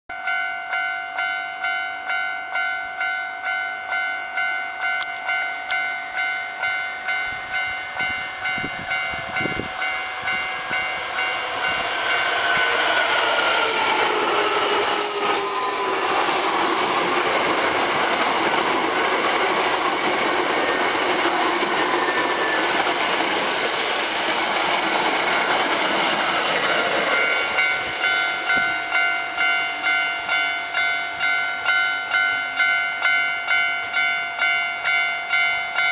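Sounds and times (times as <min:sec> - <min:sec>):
level crossing warning bell: 0:00.1 - 0:35.9
train passing: 0:00.3 - 0:35.9.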